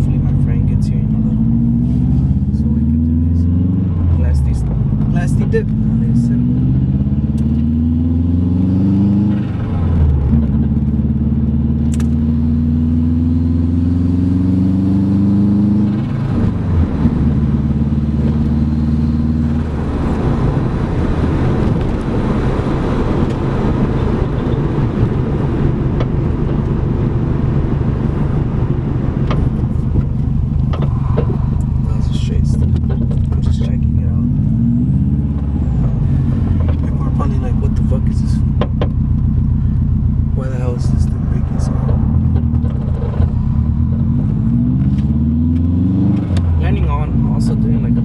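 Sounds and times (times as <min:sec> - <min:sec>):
car engine accelerating: 0:00.0 - 0:48.0
road noise: 0:00.0 - 0:48.0.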